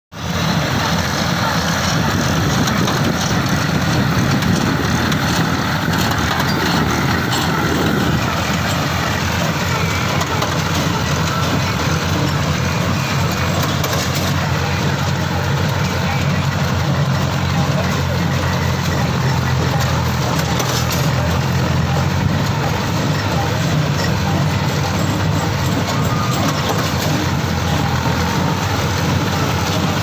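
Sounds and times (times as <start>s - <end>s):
tractor and baler mechanical drone: 0.2s - 30.0s.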